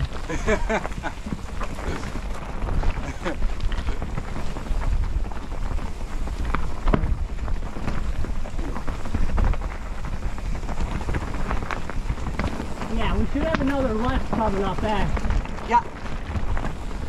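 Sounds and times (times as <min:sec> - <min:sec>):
bike rattling and knocking: 0:00.0 - 0:17.0
tyres crackling on dirt: 0:00.0 - 0:17.0
wind rumbling on microphone: 0:00.0 - 0:17.0.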